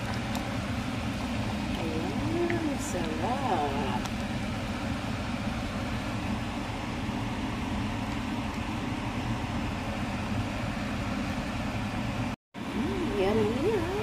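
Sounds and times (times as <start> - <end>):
soup boiling in a pot: 0.0 - 14.0.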